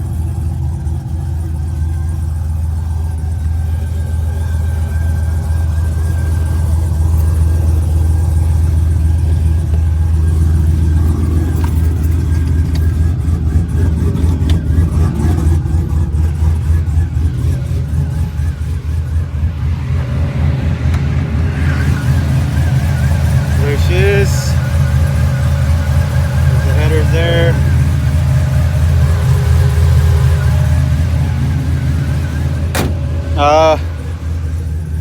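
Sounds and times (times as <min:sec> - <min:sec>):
loud deep engine exhaust: 0:00.0 - 0:35.0.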